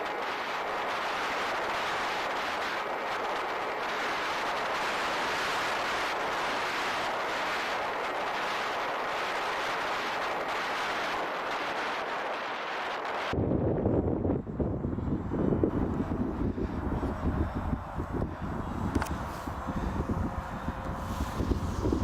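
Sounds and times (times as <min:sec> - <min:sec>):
rushing wind: 0:00.0 - 0:22.0.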